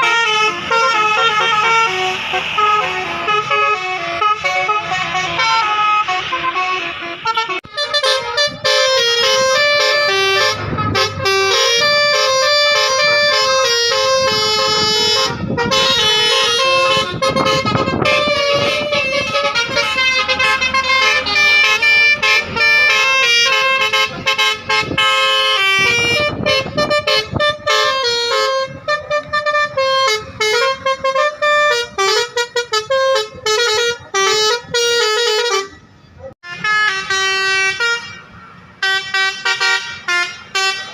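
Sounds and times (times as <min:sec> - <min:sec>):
musical air horn melodies: 0:00.0 - 0:40.9.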